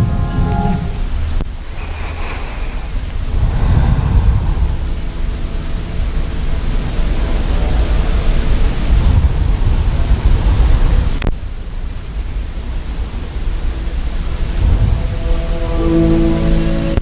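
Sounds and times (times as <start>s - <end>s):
steady rushing noise with low rumble: 0.0s - 17.0s.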